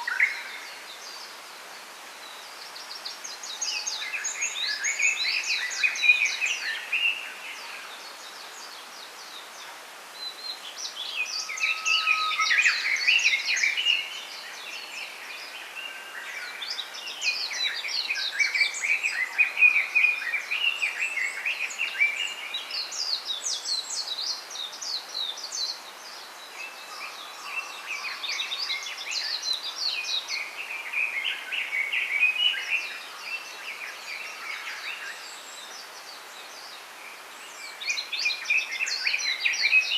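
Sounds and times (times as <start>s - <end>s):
faint background hiss: 0.0s - 39.9s
songbirds chirping and twittering: 0.0s - 39.9s.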